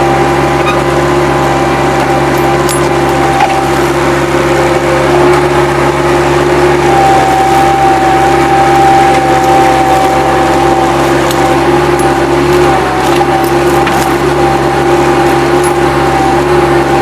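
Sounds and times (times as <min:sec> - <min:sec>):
diesel engine running: 0:00.0 - 0:17.0
high whine: 0:00.0 - 0:17.0.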